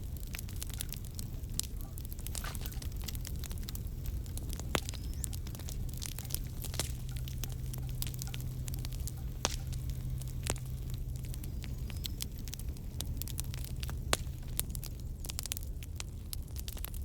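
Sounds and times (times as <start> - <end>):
low rumble: 0.0 - 17.0
steady low hum: 0.0 - 17.0
wood fire crackling: 0.0 - 17.0.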